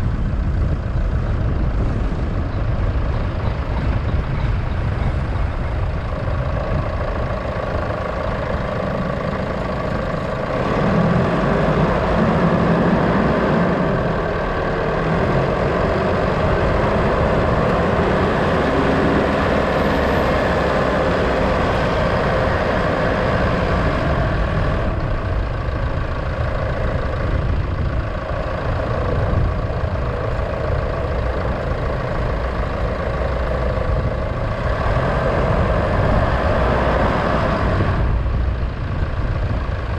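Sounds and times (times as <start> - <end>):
road and traffic noise: 0.0 - 39.9
vehicle engine running: 0.0 - 39.9.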